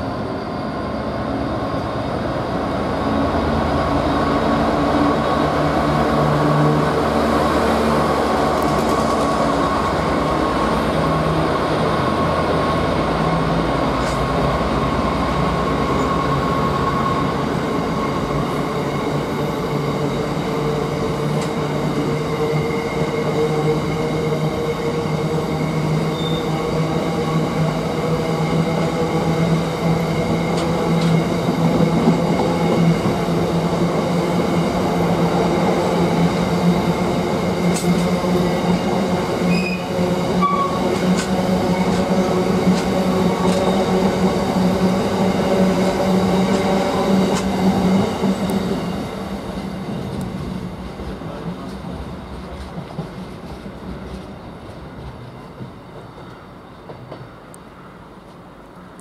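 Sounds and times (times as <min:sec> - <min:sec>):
train running with steady tones: 0:00.0 - 0:59.0.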